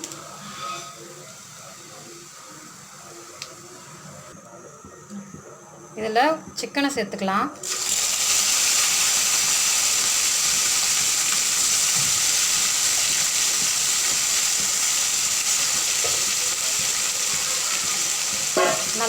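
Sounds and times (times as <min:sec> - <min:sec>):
chicken sizzling in hot oil: 0:00.0 - 0:04.3, 0:07.6 - 0:19.0.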